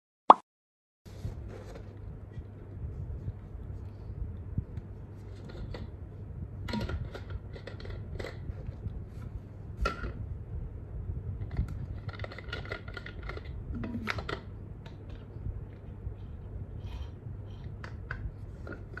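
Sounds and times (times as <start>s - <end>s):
low steady hum: 1.1s - 19.0s.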